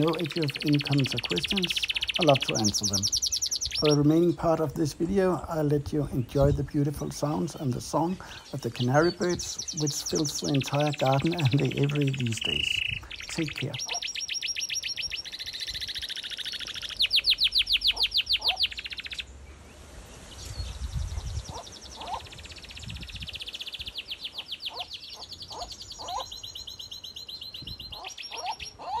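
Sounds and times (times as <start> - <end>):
canary singing in rapid trills: 0.0 - 5.0, 6.1 - 19.3, 20.9 - 29.0
other birds chirping: 0.0 - 29.0.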